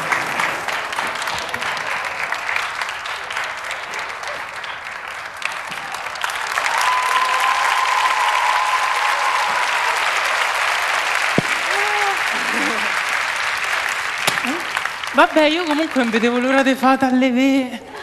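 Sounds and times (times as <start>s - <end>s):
audience applauding: 0.0s - 17.1s.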